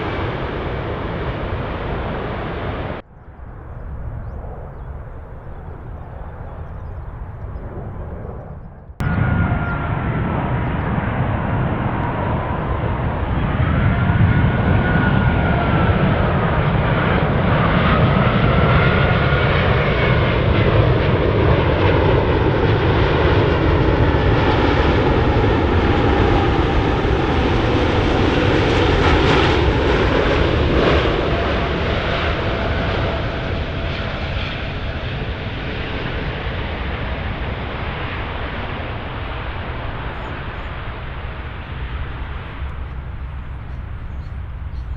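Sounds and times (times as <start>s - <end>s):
airliner landing engine rumble: 0.0s - 44.9s
jet noise: 0.0s - 44.9s.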